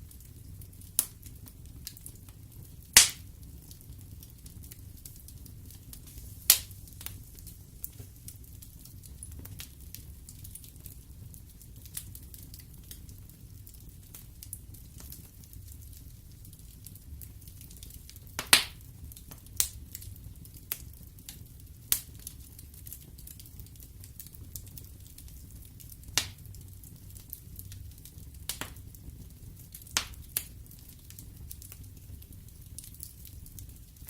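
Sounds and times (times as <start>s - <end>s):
fire rumbling: 0.0s - 34.0s
logs popping and crackling: 0.1s - 34.0s.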